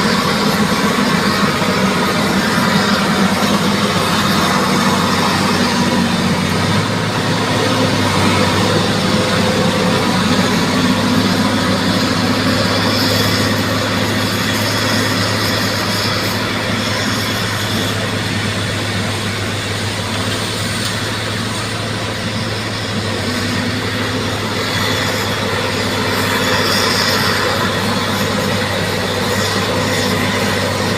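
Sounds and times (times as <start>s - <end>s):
bulldozer diesel engine running: 0.0s - 30.9s.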